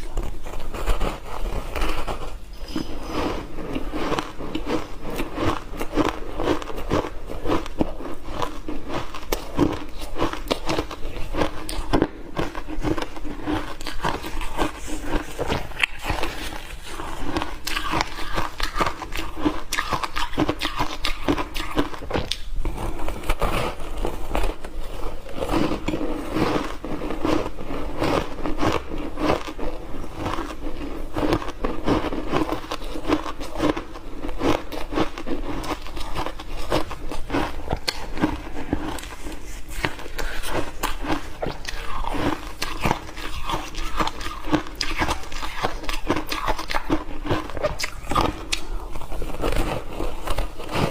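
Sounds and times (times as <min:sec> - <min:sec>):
ice being chewed and crunched: 0:00.0 - 0:50.9.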